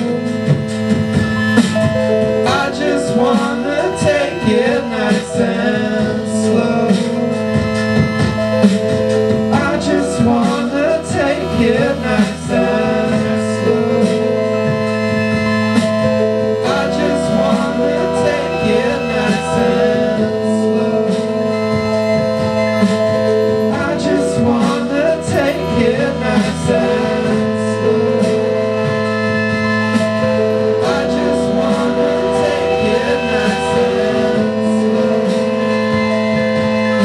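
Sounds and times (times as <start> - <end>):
held keyboard chords: 0.0 - 37.0
live band music: 0.0 - 37.0.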